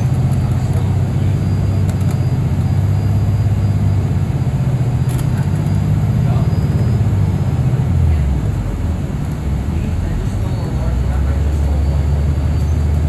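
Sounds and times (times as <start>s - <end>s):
bus engine and road drone: 0.0s - 13.0s.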